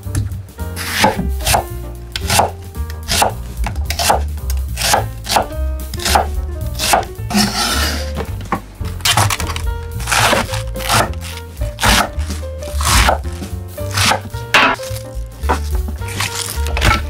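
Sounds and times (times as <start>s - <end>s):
knife slicing onion on board: 0.8s - 1.6s, 2.2s - 8.2s, 9.1s - 17.0s.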